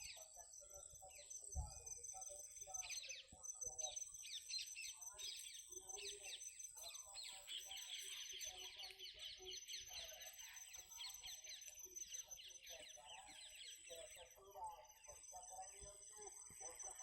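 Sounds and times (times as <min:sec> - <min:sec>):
small birds chirping in trills: 0:00.0 - 0:17.0.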